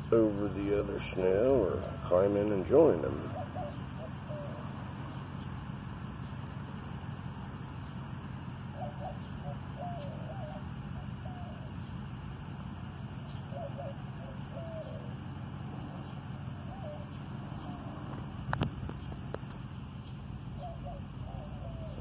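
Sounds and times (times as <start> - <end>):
bird calling: 0.0 - 22.0
low background hum: 0.0 - 22.0.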